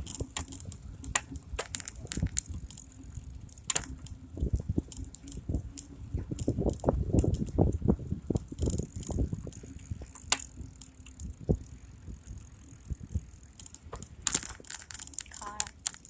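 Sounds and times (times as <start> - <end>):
bicycle clicks and rattles: 0.0 - 16.0
bicycle knocks and rumble over bumps: 0.0 - 16.0.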